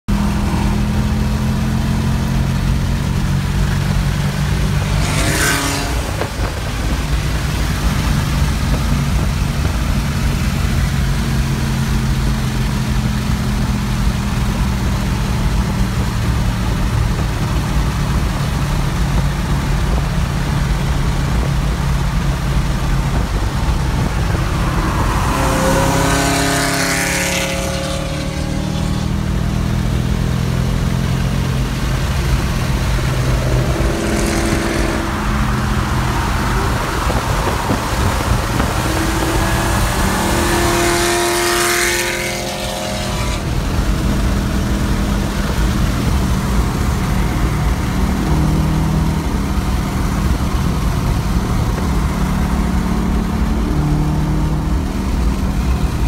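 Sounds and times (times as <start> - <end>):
car engine drone: 0.0 - 56.0
road and wind noise: 0.0 - 56.0
car passing: 2.6 - 11.5, 18.1 - 30.9, 31.6 - 56.0.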